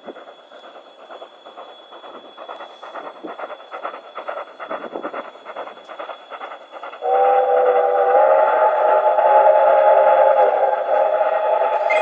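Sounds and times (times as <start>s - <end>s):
steam locomotive exhaust chuffs: 0.0s - 12.0s.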